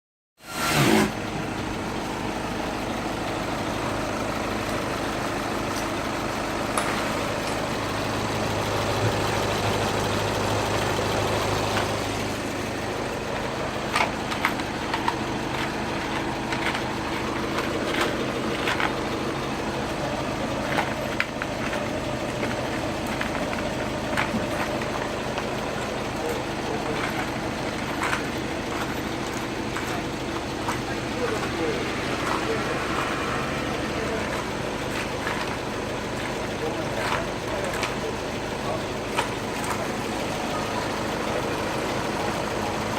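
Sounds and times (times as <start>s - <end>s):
car engine idling: 0.8s - 42.9s.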